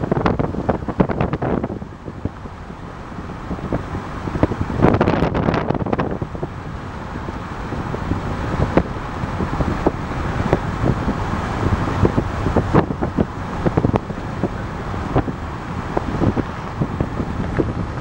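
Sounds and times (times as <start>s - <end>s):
car road noise rumble: 0.0s - 18.0s
wind buffeting microphone: 0.0s - 18.0s.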